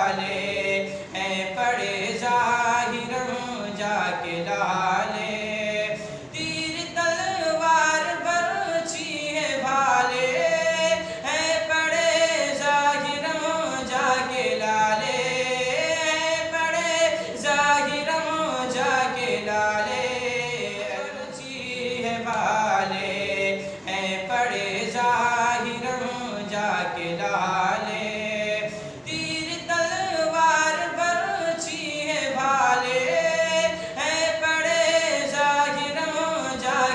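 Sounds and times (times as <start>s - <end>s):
person singing unaccompanied: 0.0s - 36.9s.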